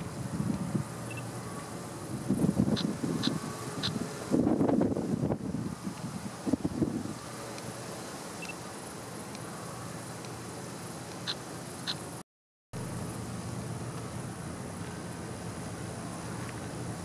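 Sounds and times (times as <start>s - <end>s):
outdoor hiss: 0.0s - 12.2s, 12.8s - 17.0s.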